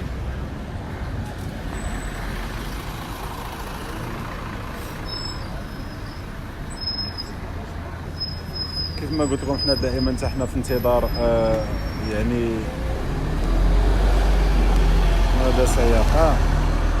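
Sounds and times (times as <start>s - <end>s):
heavy vehicles rumbling: 0.0s - 17.0s
road traffic: 0.0s - 17.0s.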